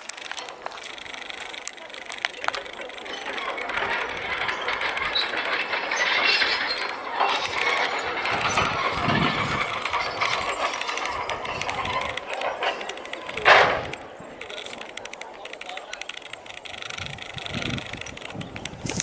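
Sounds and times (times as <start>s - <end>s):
bicycle ticking and rattling: 0.0s - 19.0s.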